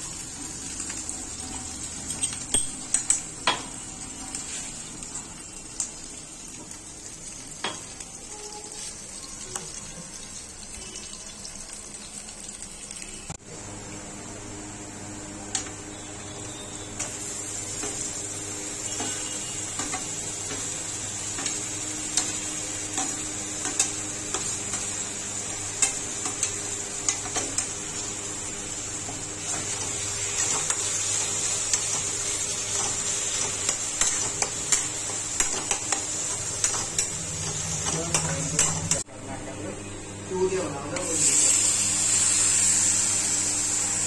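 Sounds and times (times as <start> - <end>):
onion sizzling in hot oil: 0.0 - 39.0, 40.5 - 44.0.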